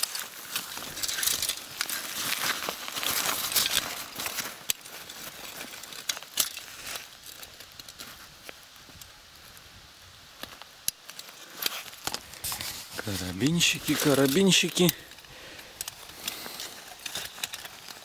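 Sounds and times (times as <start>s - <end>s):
dry grass and roots crackling: 0.0s - 18.0s.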